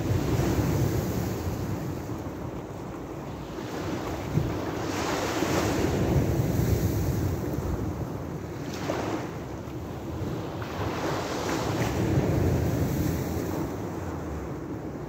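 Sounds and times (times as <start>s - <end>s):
sea waves breaking on a beach: 0.0s - 15.0s
wind rumbling on microphone: 0.0s - 15.0s.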